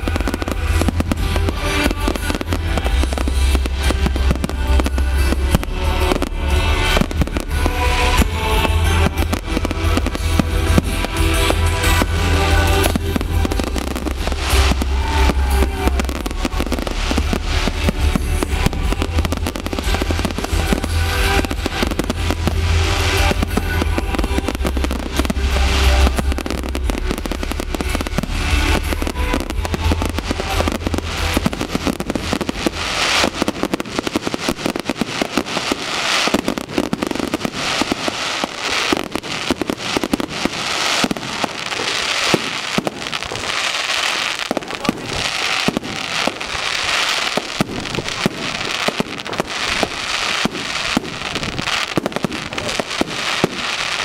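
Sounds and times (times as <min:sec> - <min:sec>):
fireworks bursting and crackling: 0:00.0 - 0:54.0
loud music with heavy bass: 0:00.0 - 0:54.0.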